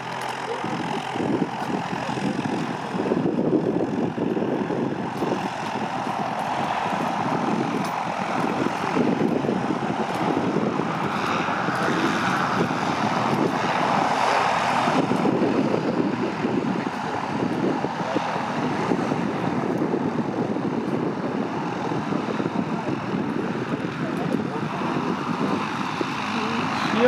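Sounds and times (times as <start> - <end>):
aircraft propeller turning: 0.0 - 27.0.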